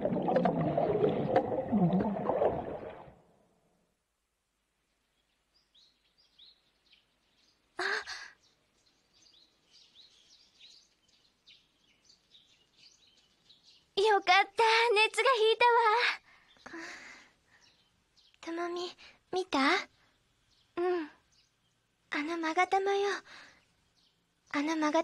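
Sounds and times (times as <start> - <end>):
small birds chirping: 4.8 - 25.0.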